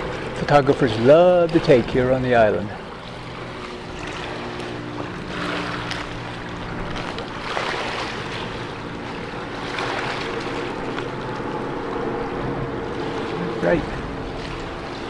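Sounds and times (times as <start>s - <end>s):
small waves lapping on shore: 0.0s - 15.0s
steady low drone: 0.0s - 15.0s.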